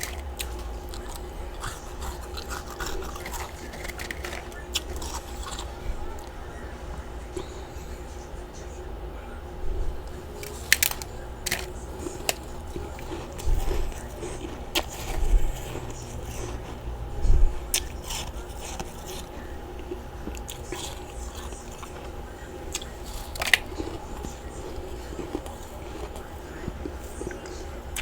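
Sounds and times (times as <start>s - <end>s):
chewing and crunching frost: 0.0s - 28.0s
faint steady hum: 0.0s - 28.0s.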